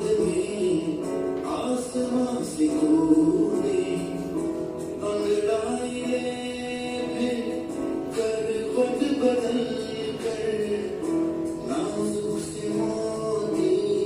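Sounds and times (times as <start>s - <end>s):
song with sung voices: 0.0s - 14.0s.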